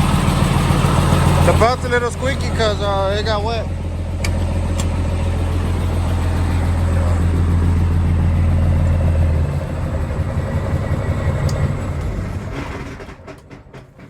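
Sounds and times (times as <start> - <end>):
truck diesel engine idling: 0.0 - 14.0.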